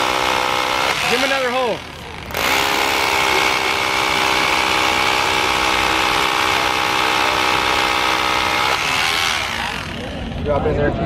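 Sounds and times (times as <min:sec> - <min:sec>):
rotary hammer drilling concrete: 0:00.0 - 0:10.5.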